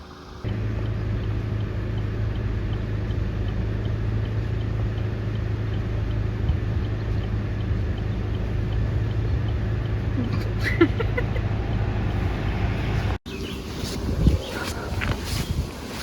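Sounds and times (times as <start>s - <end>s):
car engine and road drone: 0.0s - 16.0s.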